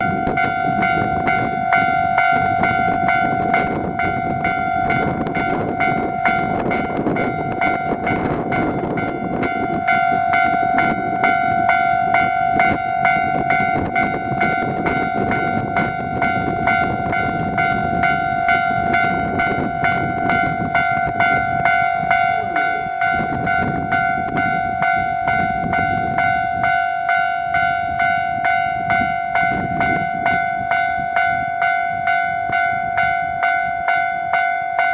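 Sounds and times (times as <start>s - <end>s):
level crossing bell ringing: 0.0s - 34.9s
train rumbling: 0.0s - 34.9s.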